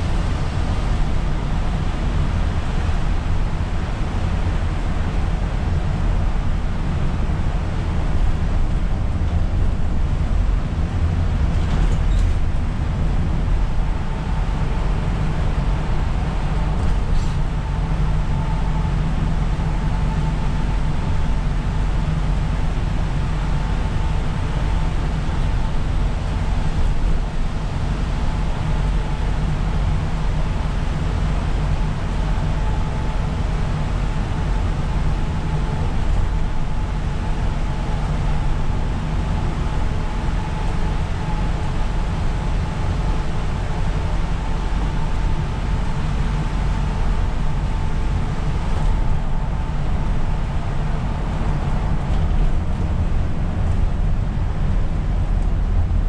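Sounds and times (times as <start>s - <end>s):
bus engine drone: 0.0s - 56.0s
faint steady whine: 0.0s - 56.0s.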